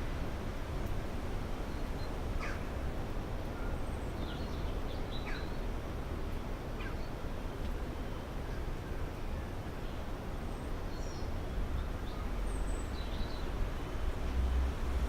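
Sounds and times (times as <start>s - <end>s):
wind with low rumble: 0.0s - 15.0s.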